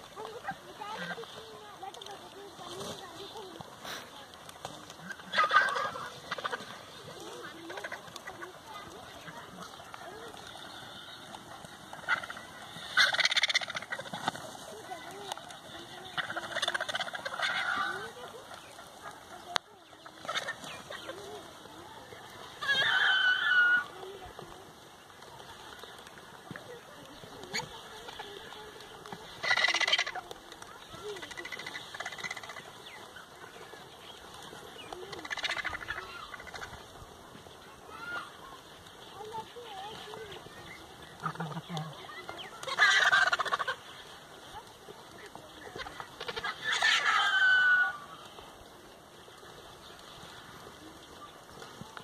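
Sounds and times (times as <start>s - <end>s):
vultures croaking: 0.0s - 52.0s
vultures rattling calls: 0.0s - 52.0s.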